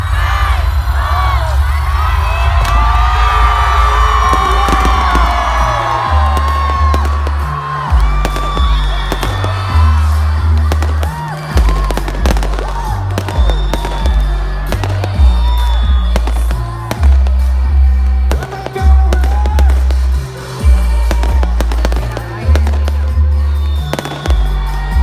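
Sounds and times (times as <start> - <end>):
loud music with heavy bass: 0.0 - 25.0
fireworks cracking and banging: 2.5 - 25.0.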